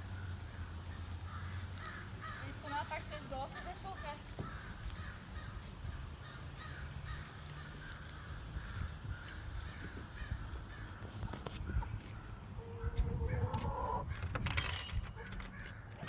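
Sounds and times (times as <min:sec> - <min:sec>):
crows cawing: 0:00.1 - 0:11.1, 0:11.7 - 0:14.1.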